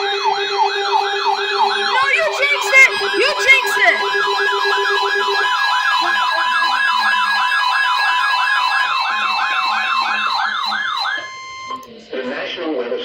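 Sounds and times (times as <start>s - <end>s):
rising whoop siren: 0.0s - 11.8s
steady high alert tone: 0.9s - 11.9s.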